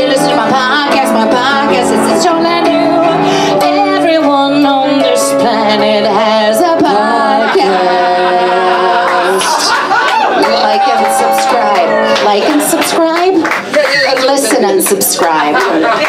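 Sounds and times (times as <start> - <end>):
woman singing into microphone: 0.0 - 13.4
live instrumental accompaniment: 0.0 - 16.0.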